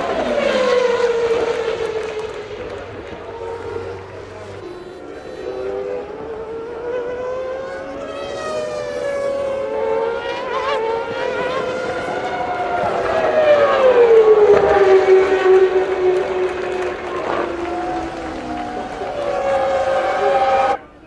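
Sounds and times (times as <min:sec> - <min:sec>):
racing car engines screaming: 0:00.0 - 0:21.0.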